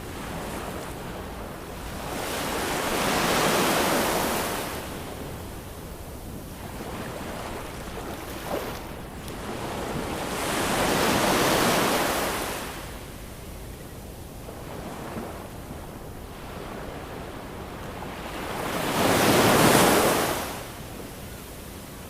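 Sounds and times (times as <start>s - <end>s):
ocean waves breaking on shore: 0.0s - 13.3s, 14.4s - 20.8s.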